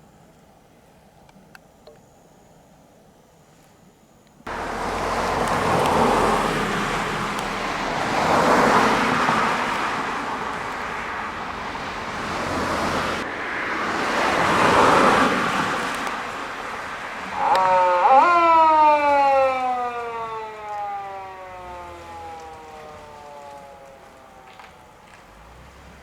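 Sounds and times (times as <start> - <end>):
cars passing: 4.5 - 26.0.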